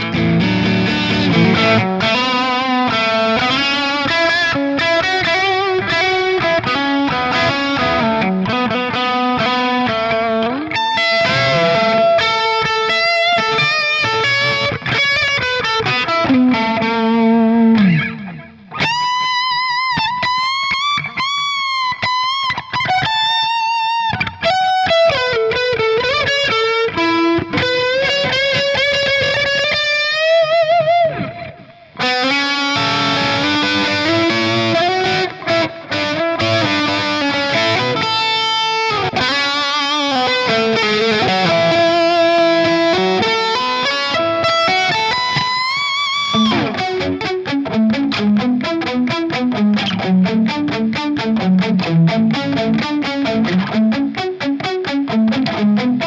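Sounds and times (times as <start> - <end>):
overdriven electric guitar lead: 0.0 - 56.0.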